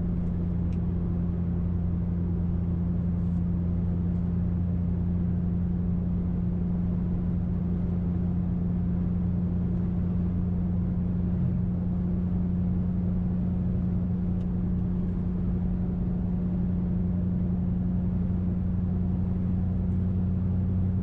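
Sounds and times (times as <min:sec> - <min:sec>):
low exhaust drone: 0:00.0 - 0:21.0.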